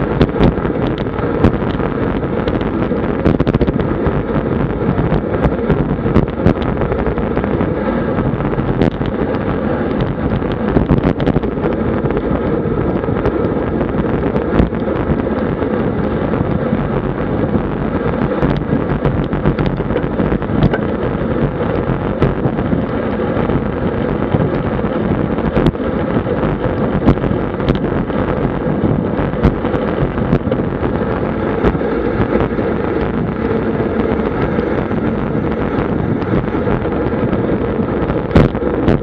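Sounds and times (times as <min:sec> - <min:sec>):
road and tyre rumble: 0:00.0 - 0:39.0
wind buffeting microphone: 0:00.0 - 0:39.0.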